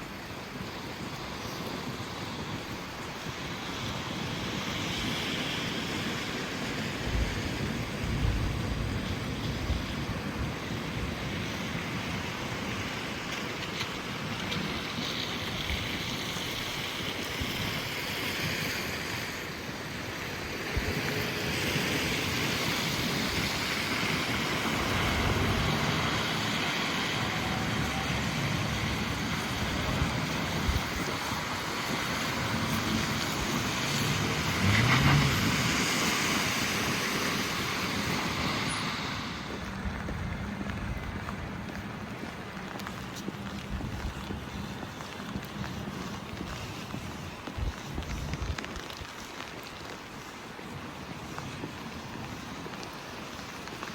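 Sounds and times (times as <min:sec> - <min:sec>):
rain hissing on street: 0:00.0 - 0:53.9.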